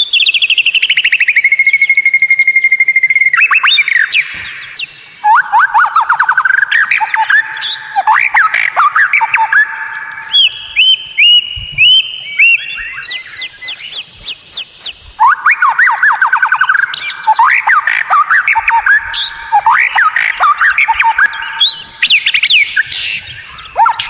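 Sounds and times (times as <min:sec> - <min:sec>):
bird singing whistled notes: 0:00.0 - 0:24.0.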